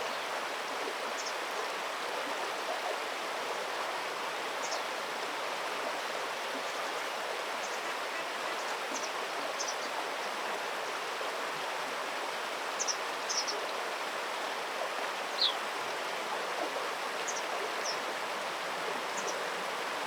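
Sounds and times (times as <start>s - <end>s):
stream water rushing: 0.1s - 20.0s.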